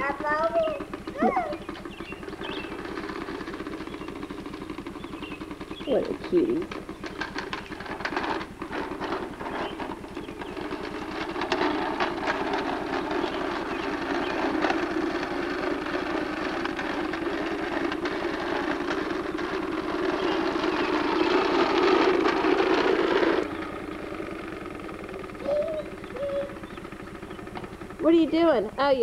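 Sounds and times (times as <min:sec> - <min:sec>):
toy lawn mower rattling: 0:00.0 - 0:29.0.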